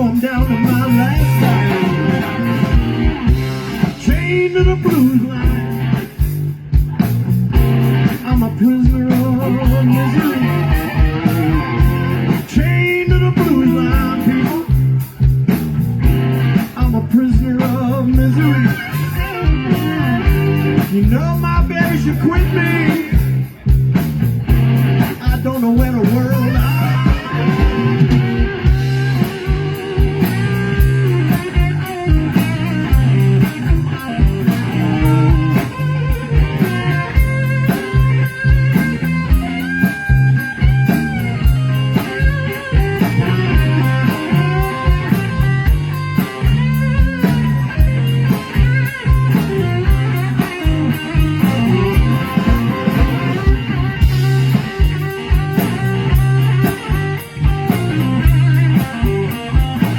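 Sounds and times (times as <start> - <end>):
bass line: 0.0 - 59.9
drum beats: 0.0 - 59.9
electric guitar lead: 0.0 - 59.9.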